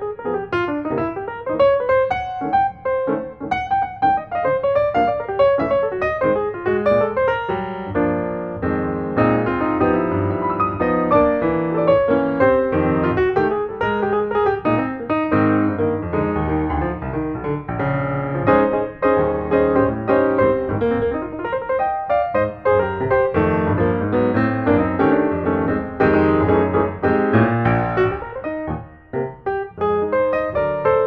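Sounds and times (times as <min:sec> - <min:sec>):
piano music with quick notes: 0:00.0 - 0:31.0.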